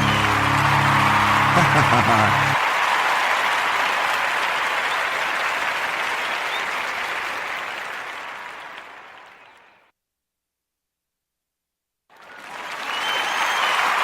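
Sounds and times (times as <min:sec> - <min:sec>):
crowd applauding: 0:00.0 - 0:09.8, 0:12.1 - 0:14.0.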